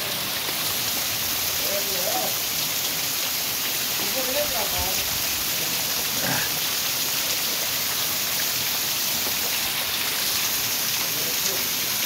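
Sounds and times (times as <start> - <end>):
heavy rain on wet ground: 0.0 - 12.0.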